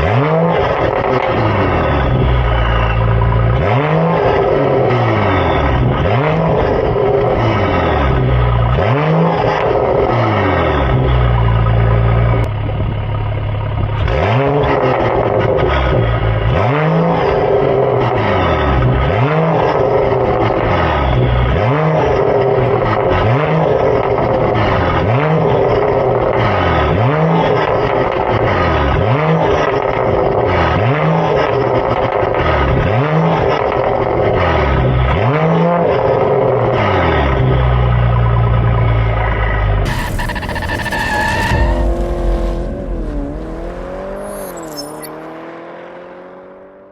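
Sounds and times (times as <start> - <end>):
car engine throttle blips: 0.0 - 46.9.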